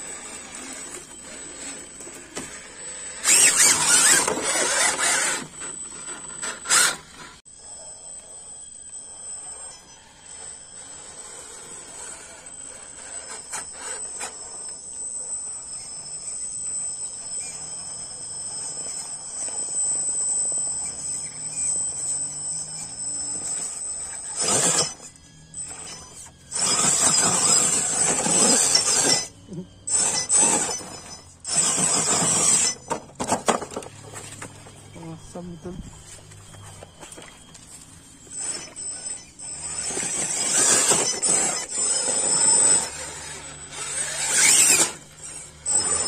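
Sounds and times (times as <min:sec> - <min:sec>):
electric motor whine: 0:00.0 - 0:46.0.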